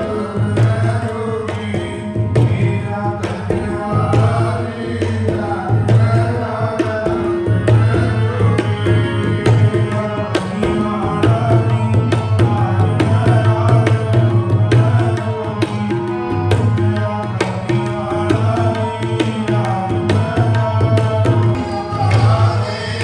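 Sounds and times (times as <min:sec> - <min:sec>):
man singing a hymn: 0:00.0 - 0:15.6, 0:16.9 - 0:23.0
harmonium chords: 0:00.0 - 0:23.0
tabla strokes: 0:00.0 - 0:23.0.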